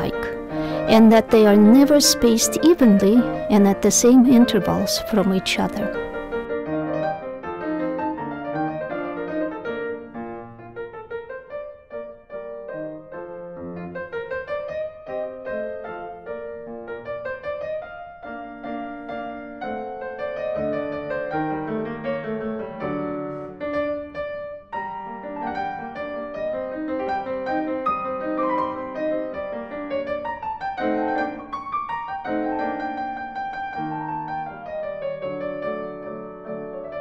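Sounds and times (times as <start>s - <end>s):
background piano music: 0.0s - 37.0s.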